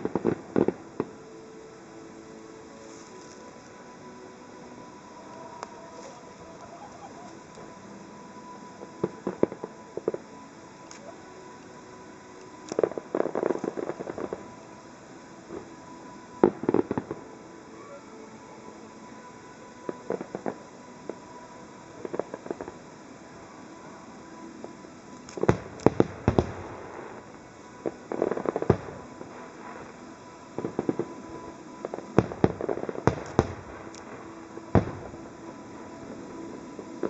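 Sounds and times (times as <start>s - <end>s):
fireworks bursting with bangs: 0.0s - 1.4s, 4.7s - 17.9s, 19.8s - 37.0s
crackling firework trails: 0.0s - 37.0s.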